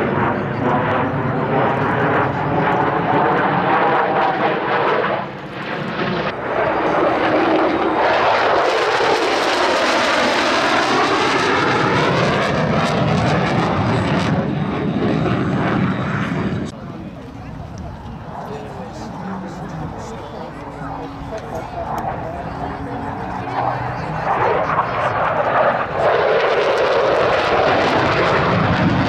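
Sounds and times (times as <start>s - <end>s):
fighter jet flying past: 0.0s - 16.7s, 21.4s - 29.0s.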